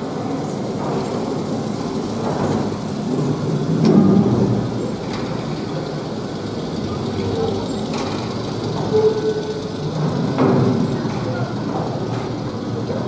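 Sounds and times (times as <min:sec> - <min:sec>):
monorail wheels rumbling on rail: 0:00.0 - 0:13.0.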